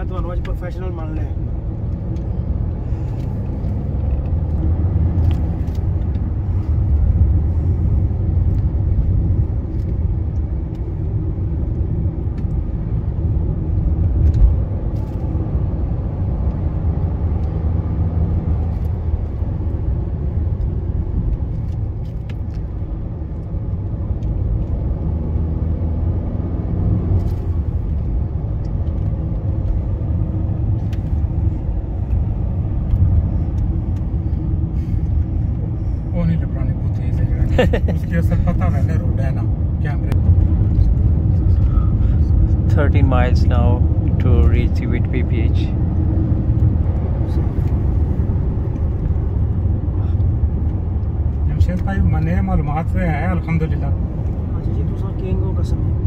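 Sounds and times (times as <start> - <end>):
car road noise: 0.0 - 56.0.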